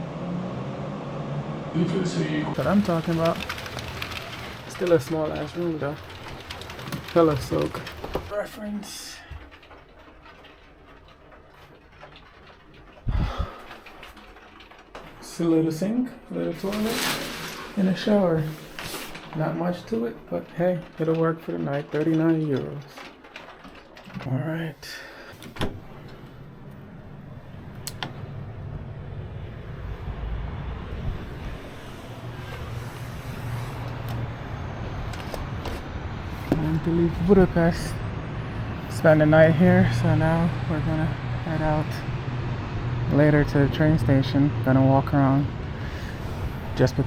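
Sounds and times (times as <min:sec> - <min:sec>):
low rumble of road traffic: 0:00.0 - 0:47.0.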